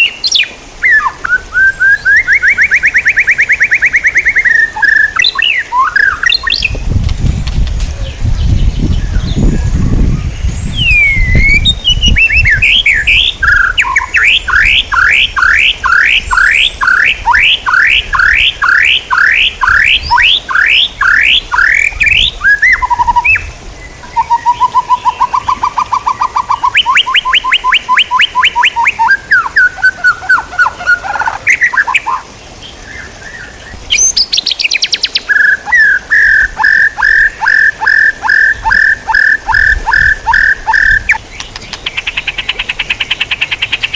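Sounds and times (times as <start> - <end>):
repeated bird chirps: 0.0 - 6.9, 10.7 - 23.5, 24.1 - 32.2, 33.9 - 43.9
fast buzzy bird trill: 0.0 - 7.0, 8.4 - 32.3, 33.8 - 43.9
songbirds singing: 0.0 - 43.9.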